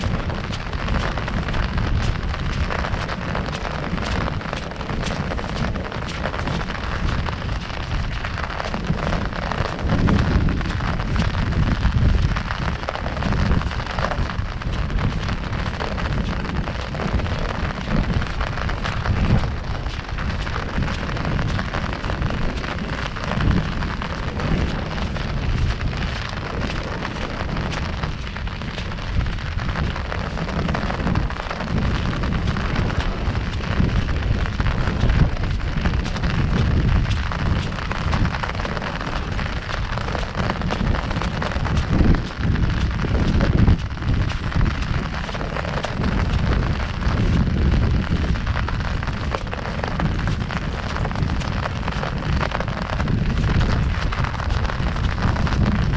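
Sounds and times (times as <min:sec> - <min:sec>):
deep low rumble: 0:00.0 - 0:55.9
rain on umbrella: 0:00.0 - 0:55.9.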